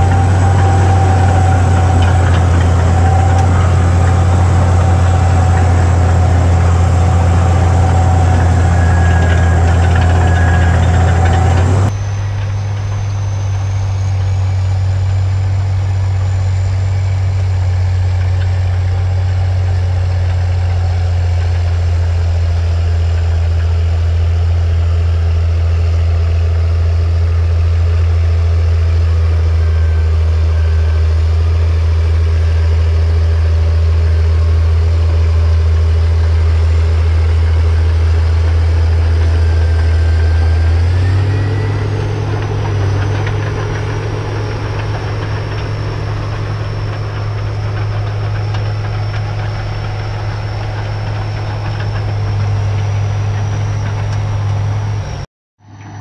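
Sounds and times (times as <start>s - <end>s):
large engine humming: 0.0s - 56.0s.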